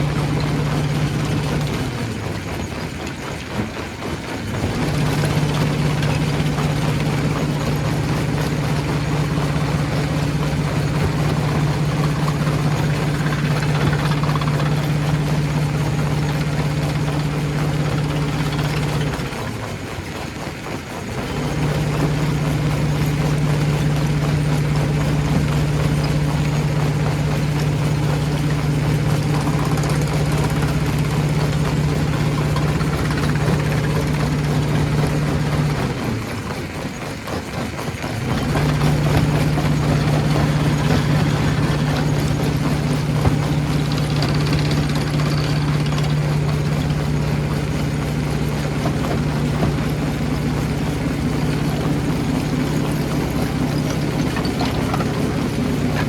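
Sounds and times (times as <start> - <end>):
rough grinding rumble: 0.0 - 19.6, 21.2 - 36.5, 38.0 - 56.0
stone crusher drone: 0.0 - 37.3, 37.9 - 56.0.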